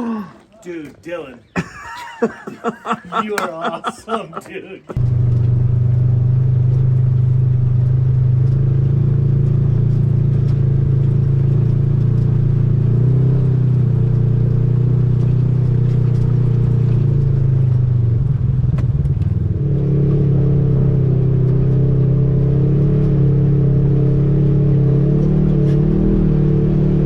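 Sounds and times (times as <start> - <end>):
vehicle engine droning: 5.0 - 27.0.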